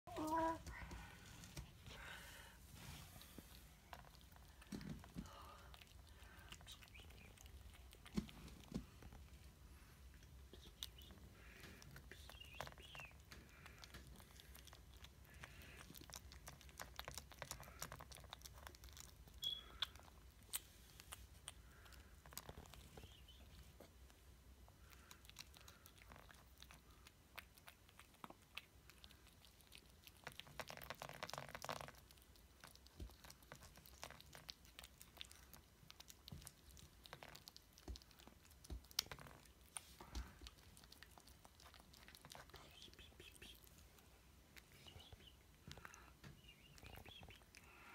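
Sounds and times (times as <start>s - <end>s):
cat chewing and licking: 0.1s - 47.9s.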